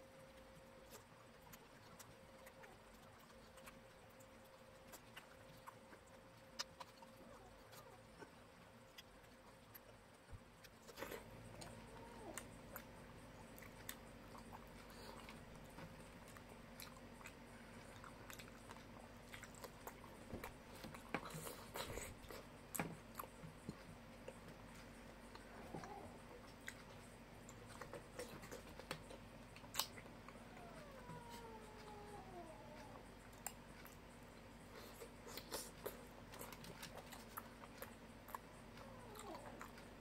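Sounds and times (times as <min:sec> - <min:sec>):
chewing and biting fruit: 0:00.2 - 0:30.4, 0:33.1 - 0:40.0.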